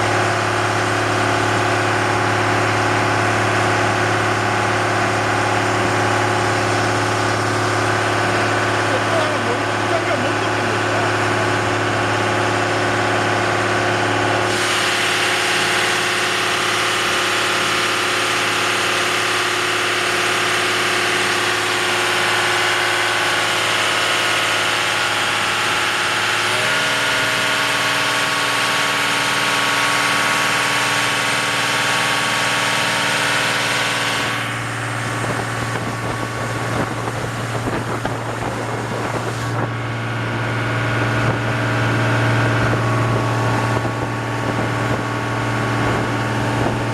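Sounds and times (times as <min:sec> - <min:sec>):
boat engine running: 0:00.0 - 0:46.9.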